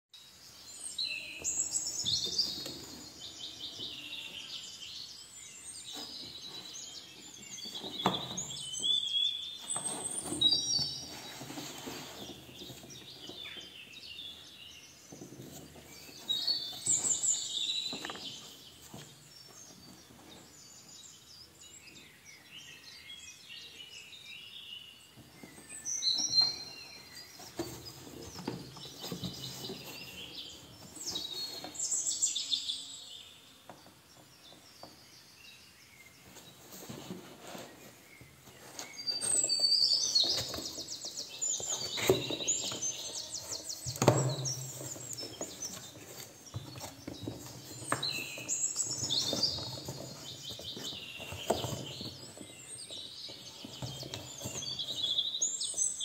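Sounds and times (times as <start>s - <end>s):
birds chirping and singing: 0.4s - 56.0s.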